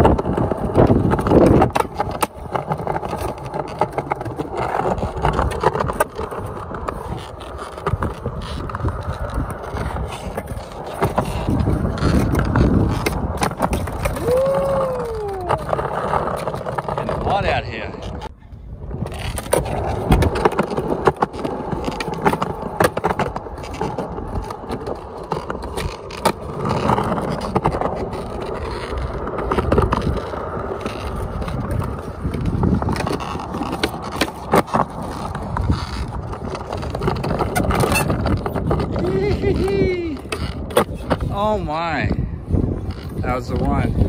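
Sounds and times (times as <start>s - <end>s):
skateboard wheels rolling on concrete: 0.0s - 44.0s.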